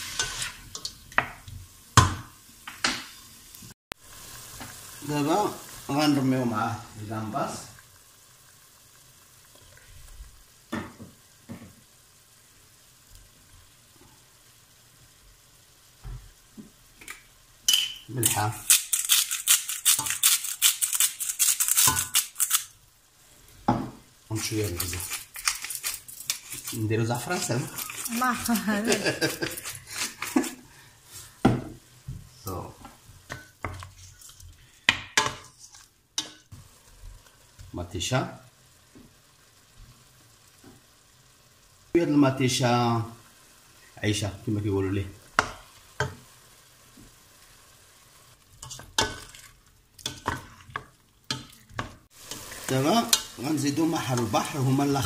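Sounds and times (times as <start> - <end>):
seafood sizzling in a pot: 0.0 - 55.0.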